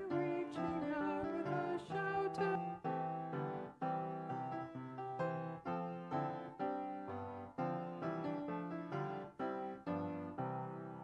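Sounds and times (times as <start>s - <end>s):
piano playing hymn chords: 0.0s - 11.0s.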